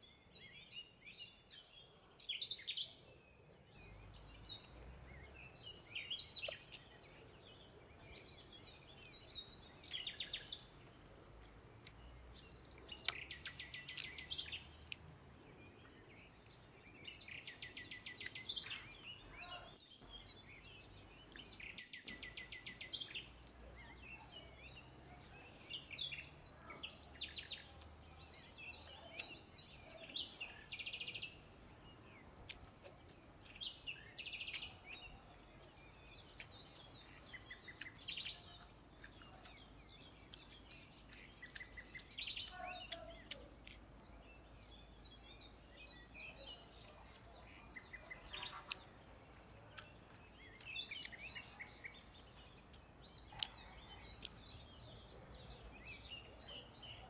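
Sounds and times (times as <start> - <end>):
birds chirping in trills: 0.0 - 57.0.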